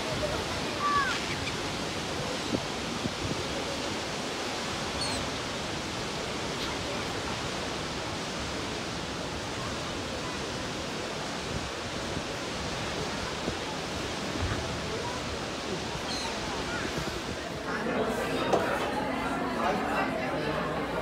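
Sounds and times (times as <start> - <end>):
ship wake churning: 0.0 - 21.0.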